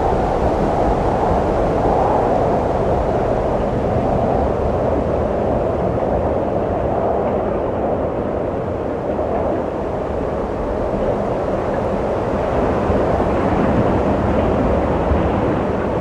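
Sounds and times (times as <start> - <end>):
gusting wind: 0.0 - 16.0.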